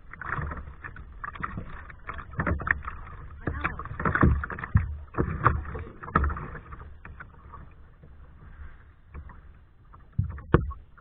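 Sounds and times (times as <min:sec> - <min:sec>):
paddle splashes in water: 0:00.0 - 0:11.0.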